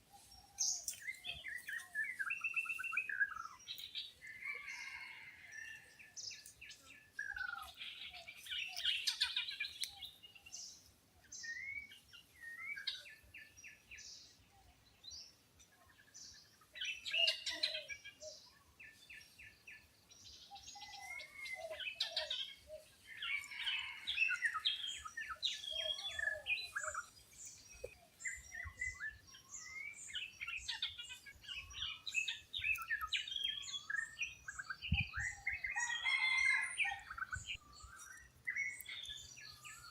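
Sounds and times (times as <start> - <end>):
wild birds chirping and calling: 0.0 - 39.9.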